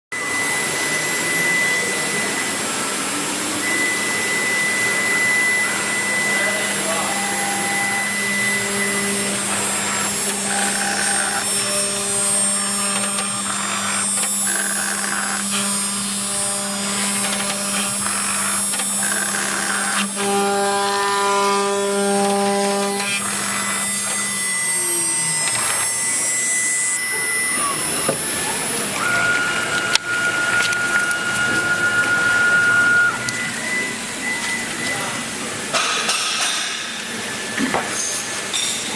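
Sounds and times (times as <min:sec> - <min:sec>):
cnc router hum and whine: 0:00.1 - 0:38.9
steady higher motor tone: 0:00.2 - 0:35.8.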